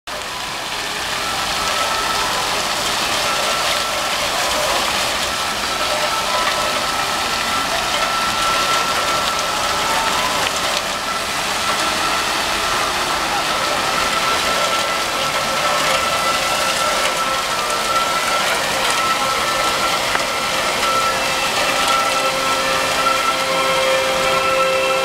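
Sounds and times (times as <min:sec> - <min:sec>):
fountain water splashing: 0:00.1 - 0:25.0.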